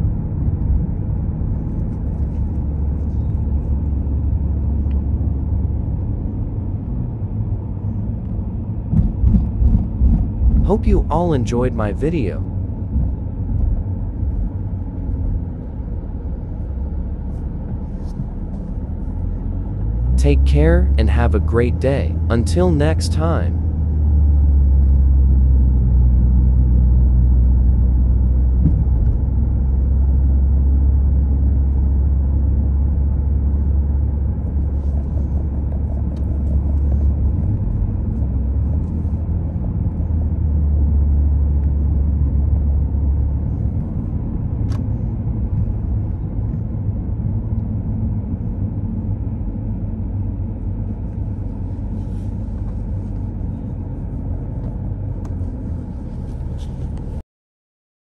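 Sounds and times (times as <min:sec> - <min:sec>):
car driving rumble: 0:00.0 - 0:57.2.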